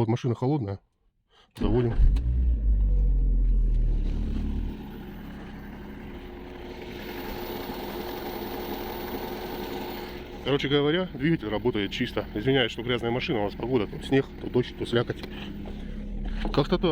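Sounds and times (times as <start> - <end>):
car engine idling: 1.6 - 16.9.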